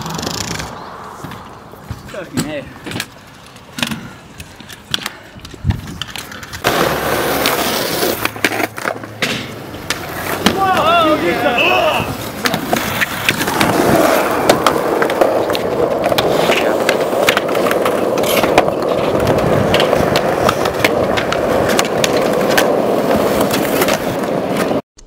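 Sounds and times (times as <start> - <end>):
skateboard clicks and clacks: 0.0 - 11.5, 12.2 - 24.8
skateboard wheels rolling on pavement: 0.0 - 24.8.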